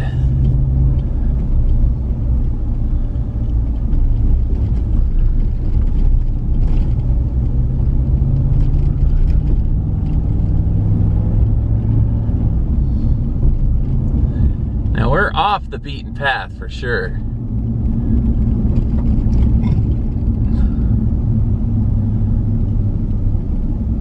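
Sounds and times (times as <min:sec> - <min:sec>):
pickup truck engine and road rumble: 0:00.0 - 0:24.0.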